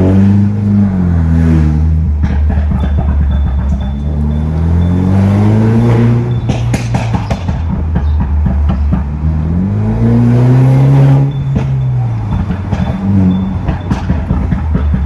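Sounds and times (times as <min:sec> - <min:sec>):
car engine revving: 0:00.0 - 0:15.0
exhaust crackles and pops: 0:00.0 - 0:15.0.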